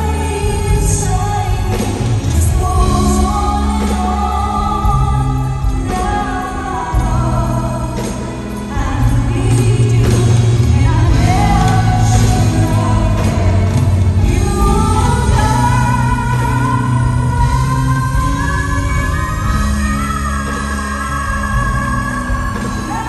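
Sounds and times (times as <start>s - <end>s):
band with keyboards and bass: 0.0s - 23.0s
woman singing into a microphone: 0.0s - 23.0s.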